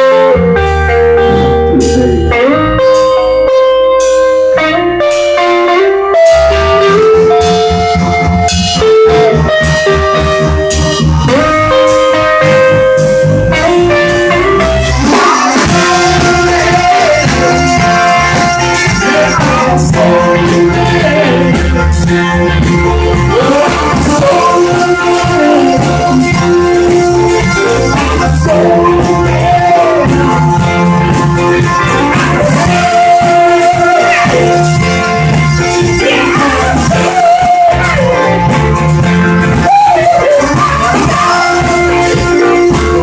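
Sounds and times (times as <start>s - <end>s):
man singing: 0.0s - 3.0s, 9.1s - 43.0s
electric guitar: 0.0s - 43.0s
live rock band playing: 0.0s - 43.0s
steady bass: 0.0s - 43.0s.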